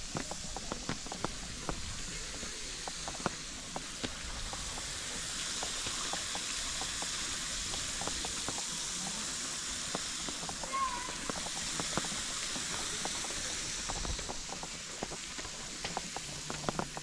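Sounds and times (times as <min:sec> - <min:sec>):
fountain spray hissing on water: 0:00.0 - 0:17.0.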